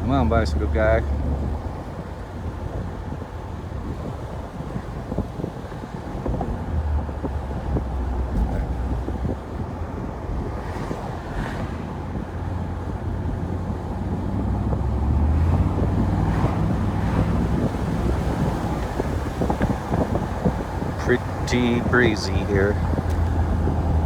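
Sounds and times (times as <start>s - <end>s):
car engine exhaust rumbling: 0.0s - 24.0s
wind buffeting microphone: 0.0s - 24.0s.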